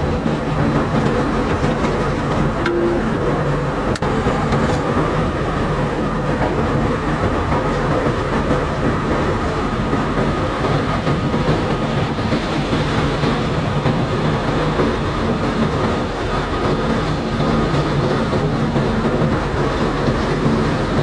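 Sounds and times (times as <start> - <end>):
conveyor machinery running: 0.0 - 21.0.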